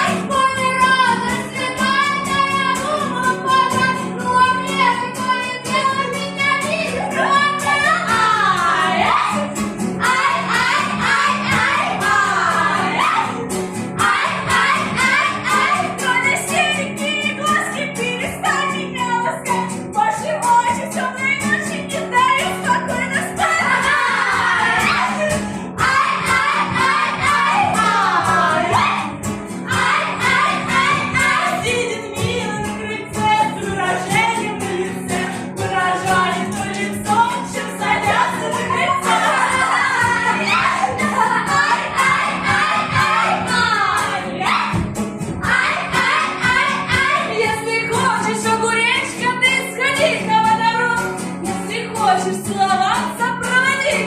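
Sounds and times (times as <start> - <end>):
person singing folk ditties: 0.0 - 54.0.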